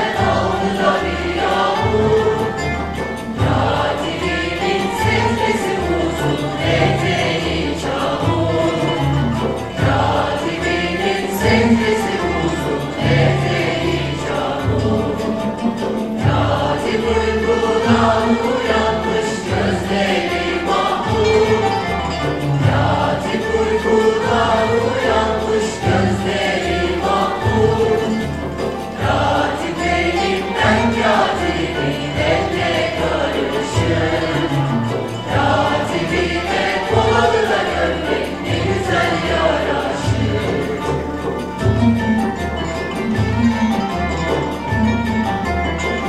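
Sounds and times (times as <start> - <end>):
frame drums beating: 0.0 - 46.0
mixed choir singing: 0.0 - 46.0
violin and ouds playing: 0.0 - 46.0.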